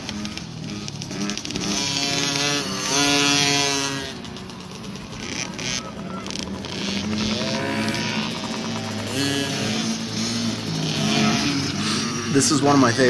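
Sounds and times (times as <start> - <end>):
small motorbike engines revving: 0.0 - 13.0.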